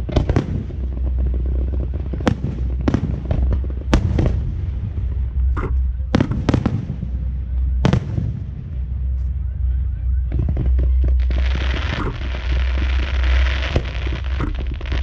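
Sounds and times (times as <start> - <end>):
deep rumble: 0.0 - 15.0
fireworks bangs and crackles: 0.0 - 15.0
hissing crackle: 0.0 - 15.0.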